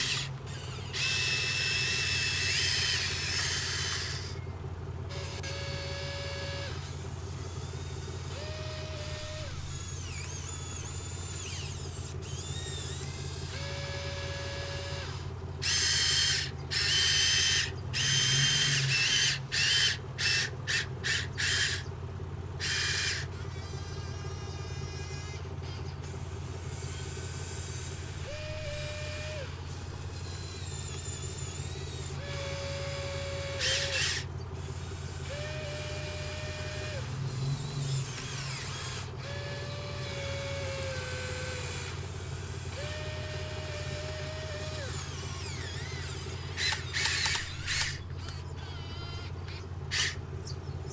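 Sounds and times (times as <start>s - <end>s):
excavator machinery humming: 0.0s - 50.9s
short whining tones: 0.0s - 50.9s.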